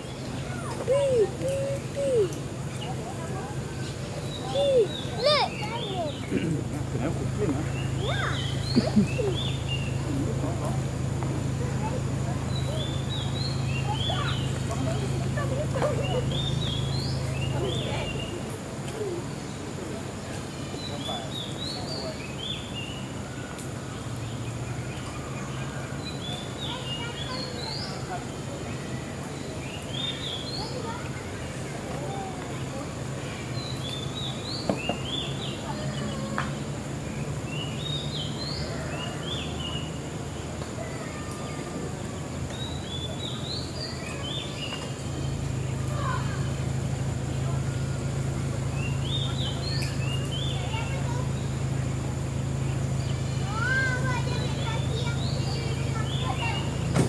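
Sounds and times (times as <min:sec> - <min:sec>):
birds chirping: 0:00.0 - 0:57.0
faint distant voices: 0:00.0 - 0:57.0.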